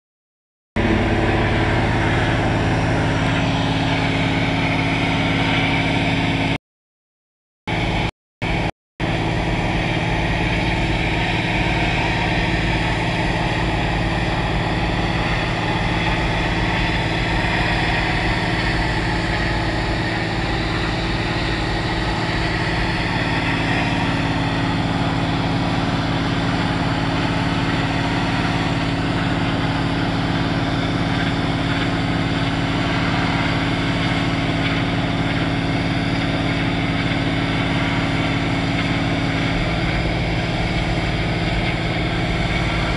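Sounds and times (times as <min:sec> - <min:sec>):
pressure washer motor hum: 0:00.8 - 0:06.6, 0:07.7 - 0:42.9
steady tone: 0:00.8 - 0:06.6, 0:07.7 - 0:42.9.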